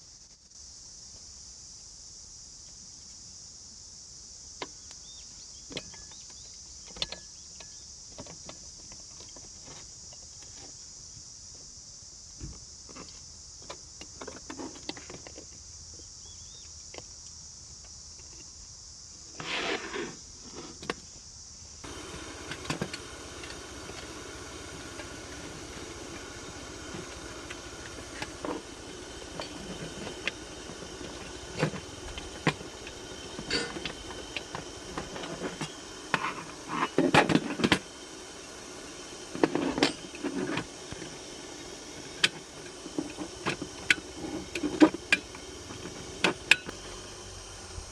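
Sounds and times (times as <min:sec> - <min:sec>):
background hiss: 0:00.0 - 0:47.9.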